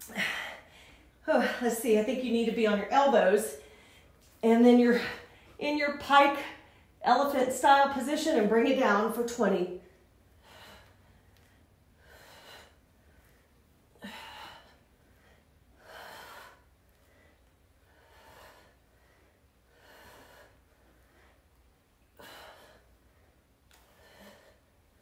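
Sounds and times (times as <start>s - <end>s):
woman breathing: 0.0s - 2.1s, 2.7s - 7.0s, 9.8s - 25.0s.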